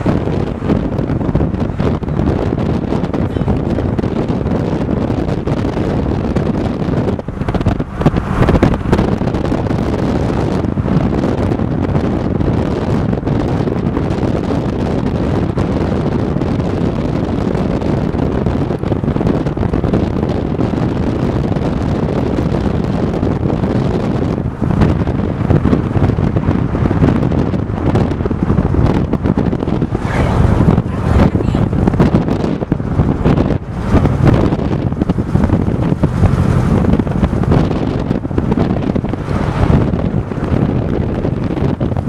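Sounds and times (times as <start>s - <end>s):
road noise: 0.0s - 42.0s
wind buffeting microphone: 0.0s - 42.0s.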